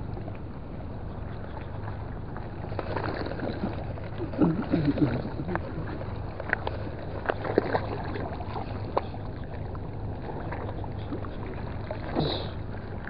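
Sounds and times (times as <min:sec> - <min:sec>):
low hum: 0:00.0 - 0:13.0
outdoor noise: 0:00.0 - 0:13.0.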